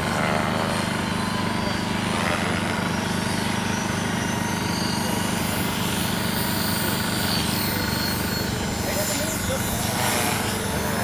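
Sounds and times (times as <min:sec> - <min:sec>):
rc helicopter rotor buzzing: 0:00.0 - 0:11.0.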